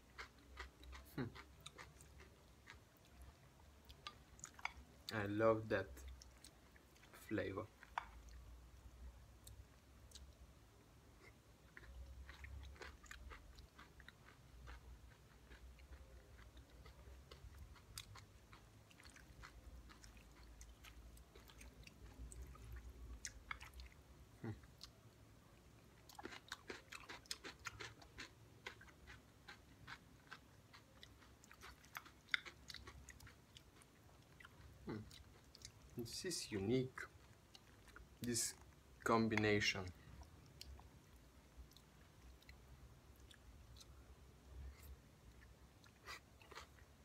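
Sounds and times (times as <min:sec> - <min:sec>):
chewing and crunching salad: 0:00.0 - 0:08.6, 0:09.4 - 0:10.5, 0:11.1 - 0:47.0.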